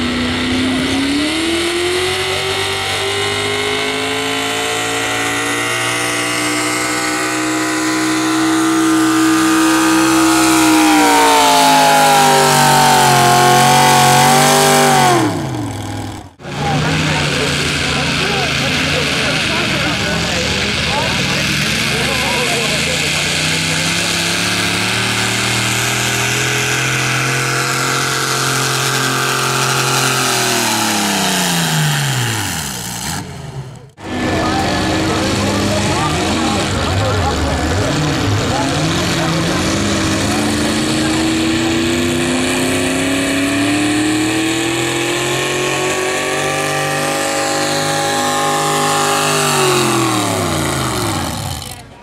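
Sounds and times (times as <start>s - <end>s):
truck engine at full throttle: 0.0s - 52.0s.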